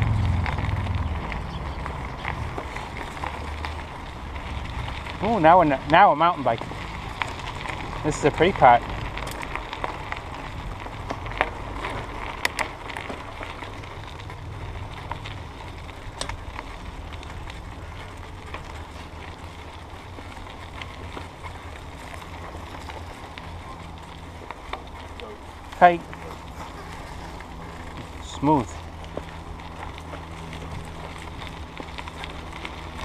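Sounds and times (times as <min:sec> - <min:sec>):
bike tyres rumbling on trail: 0:00.0 - 0:33.0
sharp bike clicks: 0:00.0 - 0:33.0.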